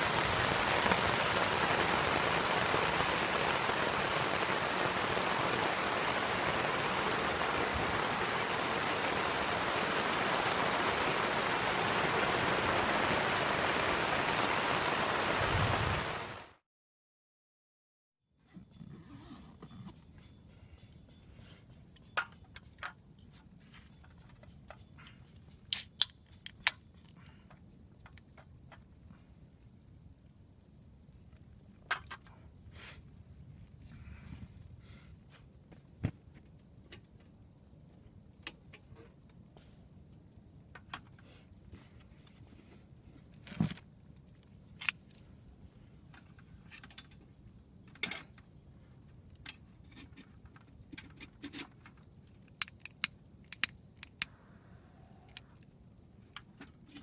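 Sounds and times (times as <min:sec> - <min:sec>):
crickets trilling: 0:00.0 - 0:16.4, 0:18.5 - 0:57.0.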